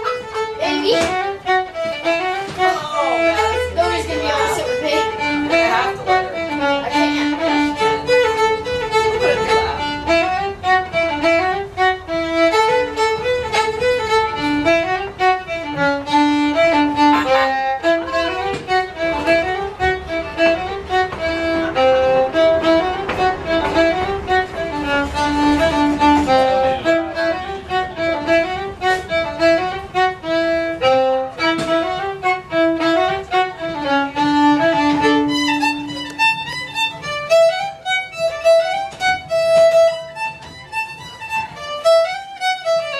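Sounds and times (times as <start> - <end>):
fiddle tune: 0.0 - 42.9.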